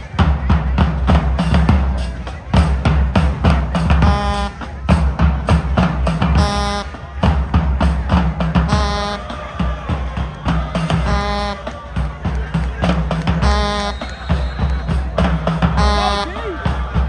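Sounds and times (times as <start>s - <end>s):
heavy drum beat with deep bass: 0.0s - 17.0s.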